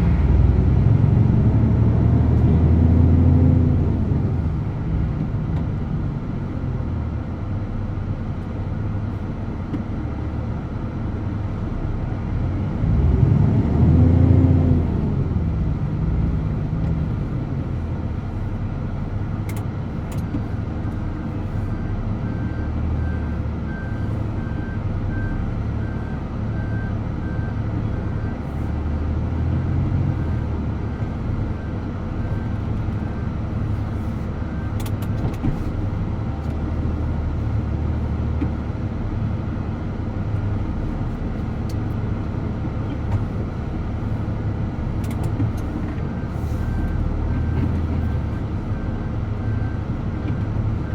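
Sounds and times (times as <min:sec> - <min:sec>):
truck engine droning: 0:00.0 - 0:50.9.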